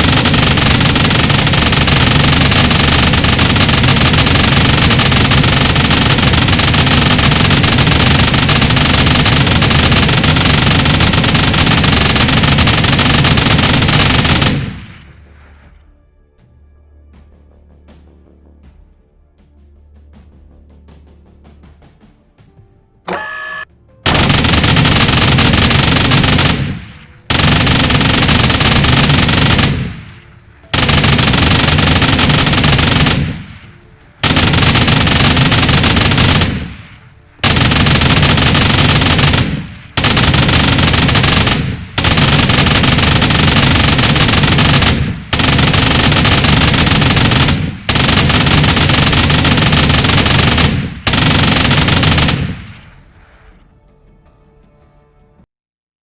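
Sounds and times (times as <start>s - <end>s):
rotary machine gun firing bursts: 0.0s - 15.8s, 23.1s - 53.6s.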